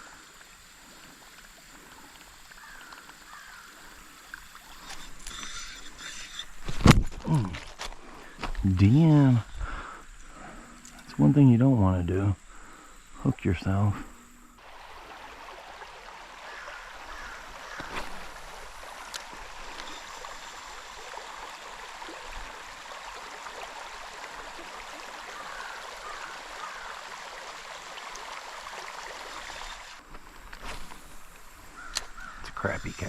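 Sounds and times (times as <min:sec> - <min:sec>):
creek water over rocks: 0:00.0 - 0:33.0.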